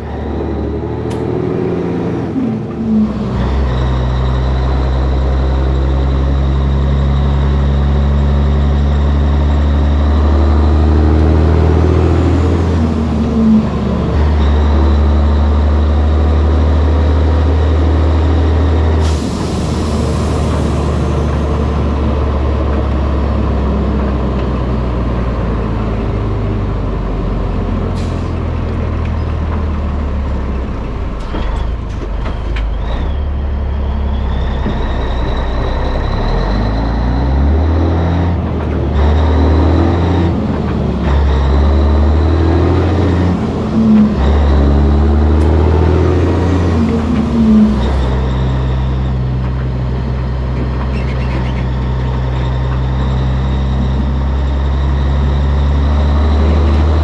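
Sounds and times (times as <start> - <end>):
truck diesel engine: 0.0 - 57.0.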